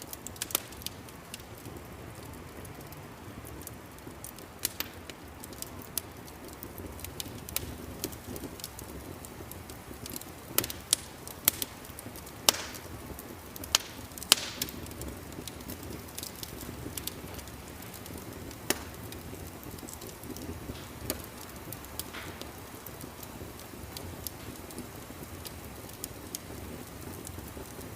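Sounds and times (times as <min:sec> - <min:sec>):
low fire rumble: 0:00.0 - 0:27.9
wood fire crackling: 0:00.0 - 0:27.9.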